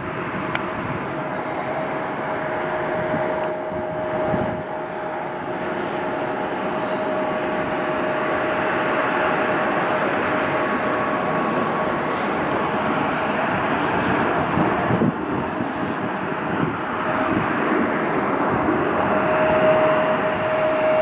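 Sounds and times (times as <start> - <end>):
jet engines rushing and whining: 0.0 - 21.0.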